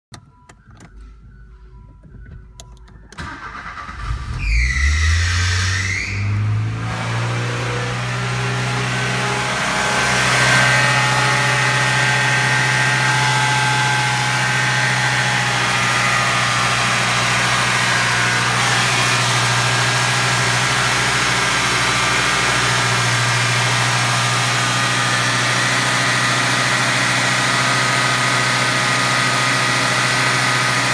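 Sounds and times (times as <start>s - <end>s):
car engine running: 5.9s - 30.9s.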